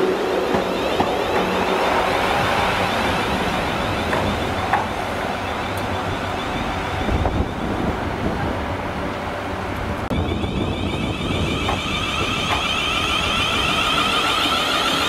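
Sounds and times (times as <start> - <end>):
train wheels on rail: 0.0 - 15.0.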